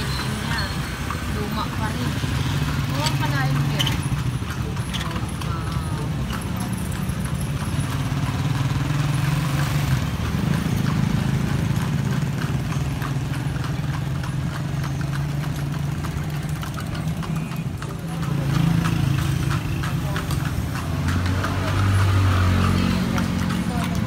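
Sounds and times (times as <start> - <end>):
horse hooves on pavement: 0.0 - 24.0
traffic engine hum: 0.0 - 24.0.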